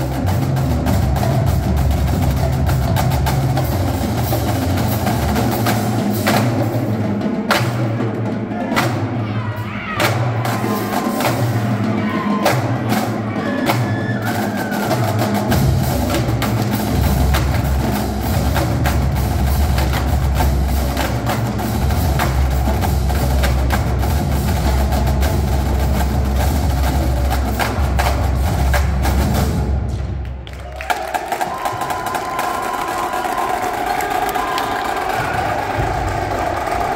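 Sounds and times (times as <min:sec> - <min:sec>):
bass drums: 0:00.0 - 0:36.9
marching drumline playing: 0:00.0 - 0:36.9.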